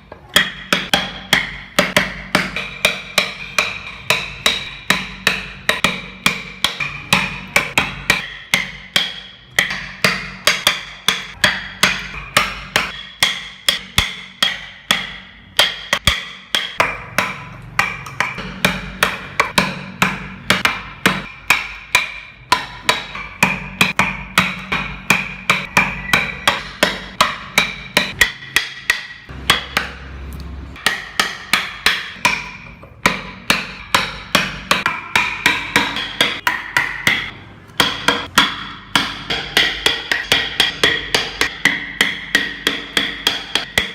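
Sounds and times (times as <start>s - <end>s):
mallet striking chisel: 0.0s - 43.9s.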